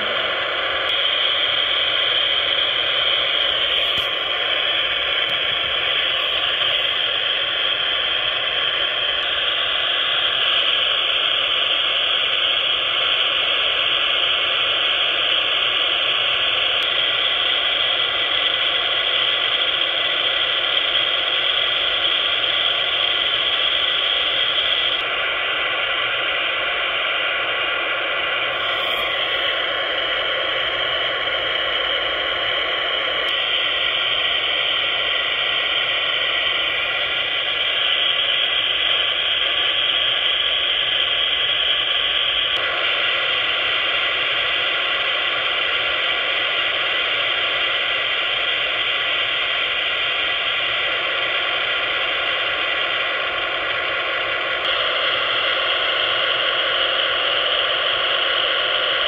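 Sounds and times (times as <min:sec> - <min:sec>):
scanner static hiss: 0:00.0 - 0:59.0.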